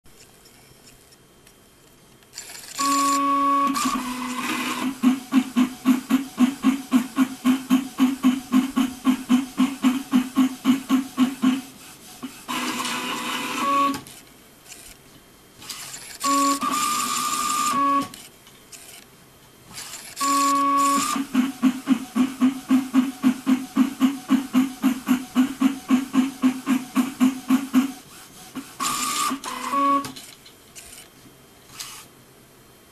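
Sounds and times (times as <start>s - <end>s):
paper-feed motor whine: 2.4s - 15.0s, 15.6s - 19.0s, 19.7s - 30.2s
printer mechanism rapid pulsing: 2.4s - 15.0s, 15.6s - 19.0s, 19.7s - 31.1s.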